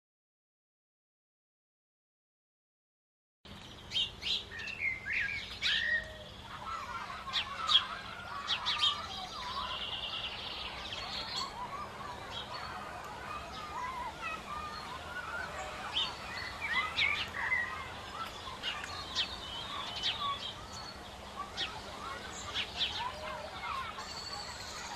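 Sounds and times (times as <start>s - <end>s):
small birds chirping: 3.5s - 24.9s.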